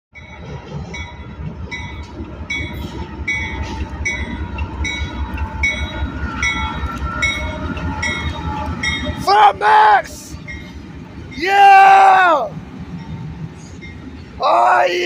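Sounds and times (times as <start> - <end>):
diesel locomotive rumble: 0.1 - 15.0.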